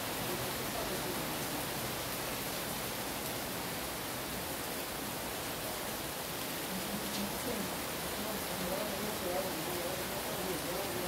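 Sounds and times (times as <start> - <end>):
rain falling on leaves: 0.0 - 11.0.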